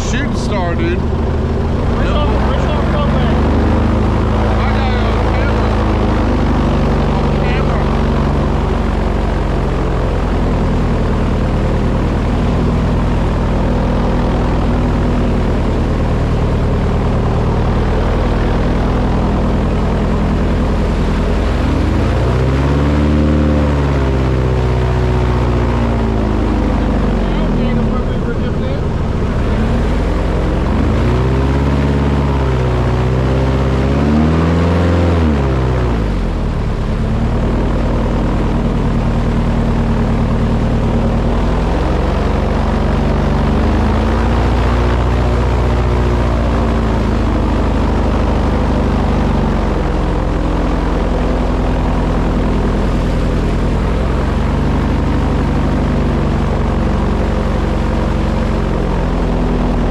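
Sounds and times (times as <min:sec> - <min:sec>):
boat engine revving: 0:00.0 - 0:59.9.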